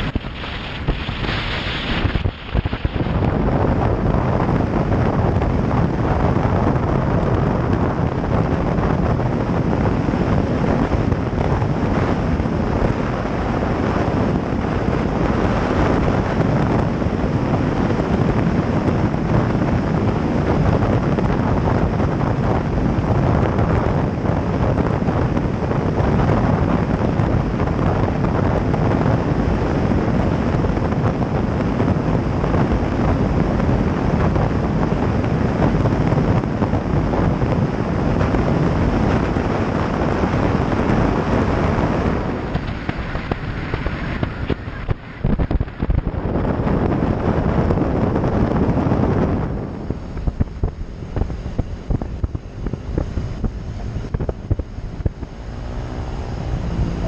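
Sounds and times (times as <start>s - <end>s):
vehicle running noise: 0.0s - 57.0s
wind buffeting camera: 0.0s - 57.0s.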